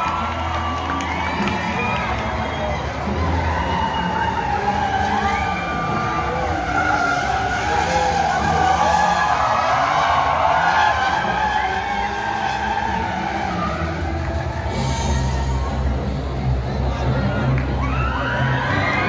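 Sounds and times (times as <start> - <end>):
car engine droning: 0.0 - 16.8.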